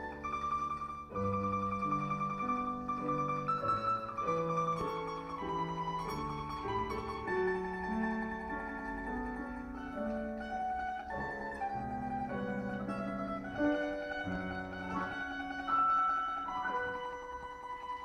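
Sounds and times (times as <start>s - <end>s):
domra melody: 0.0s - 18.0s.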